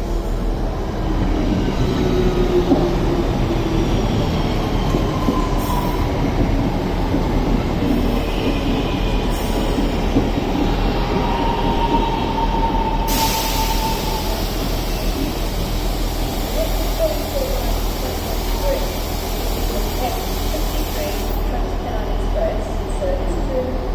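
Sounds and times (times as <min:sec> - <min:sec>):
high train whine: 0:00.0 - 0:23.9
train wheels rumbling on rail: 0:00.0 - 0:23.9.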